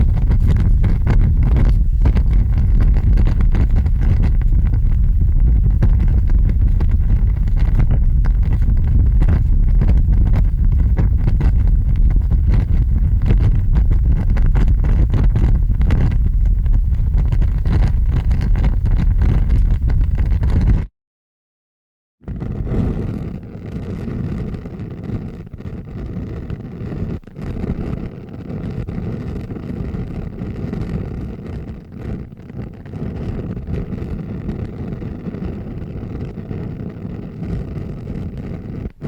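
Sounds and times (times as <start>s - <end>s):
large fire crackling and popping: 0.0s - 20.9s, 22.2s - 39.0s.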